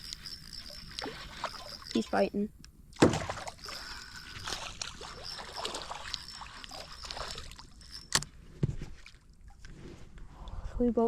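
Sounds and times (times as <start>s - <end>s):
water splashing and sloshing: 0.0s - 10.3s.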